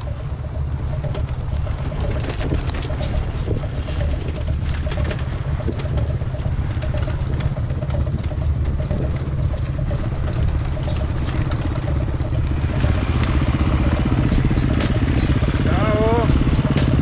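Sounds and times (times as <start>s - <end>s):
clicks and clatter from bike: 0.0s - 15.6s
motorcycle engine running: 0.0s - 17.0s.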